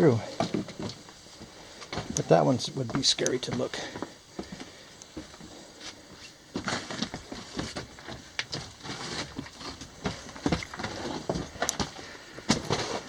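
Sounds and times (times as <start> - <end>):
footsteps crunching on gravel: 0.5 - 13.0.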